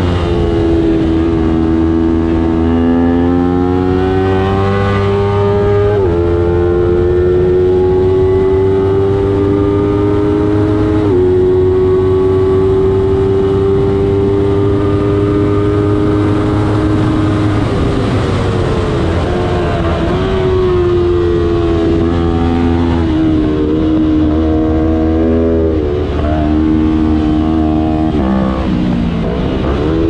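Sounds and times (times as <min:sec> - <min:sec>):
motorcycle engine revving high: 0:00.0 - 0:30.0.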